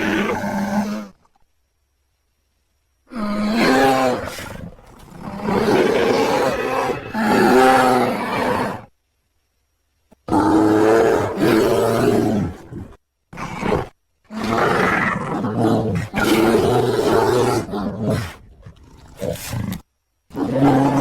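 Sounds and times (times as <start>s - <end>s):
bear roaring: 0.0s - 1.2s, 3.1s - 8.9s, 10.3s - 21.0s.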